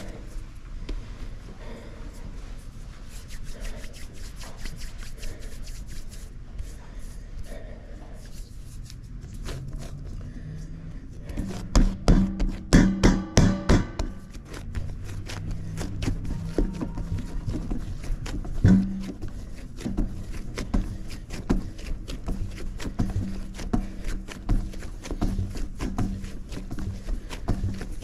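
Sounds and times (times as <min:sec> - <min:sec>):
hands rubbing pizza dough: 0:00.0 - 0:12.8, 0:13.8 - 0:28.0.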